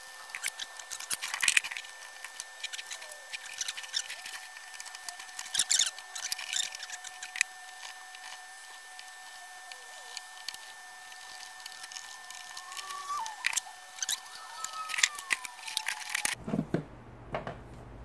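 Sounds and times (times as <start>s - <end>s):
faint steady whine: 0.0s - 16.4s
plastic squeaking on plastic: 0.0s - 16.4s.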